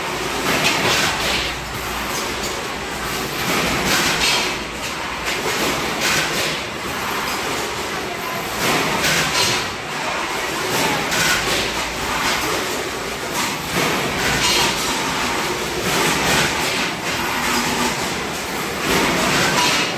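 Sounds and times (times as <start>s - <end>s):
machines and conveyors din: 0.0s - 19.9s.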